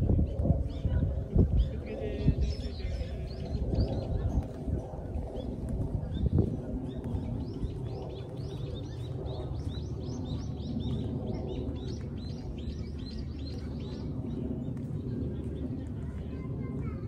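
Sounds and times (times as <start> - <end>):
small birds chirping: 0.1 - 16.4.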